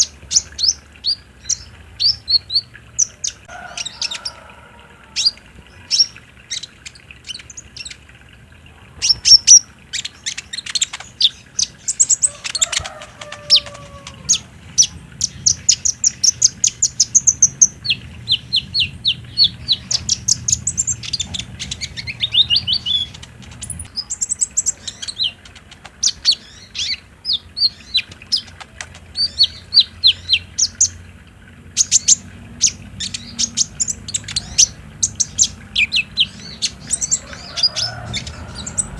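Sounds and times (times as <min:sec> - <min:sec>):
bird chirps and trills: 0:00.0 - 0:38.9.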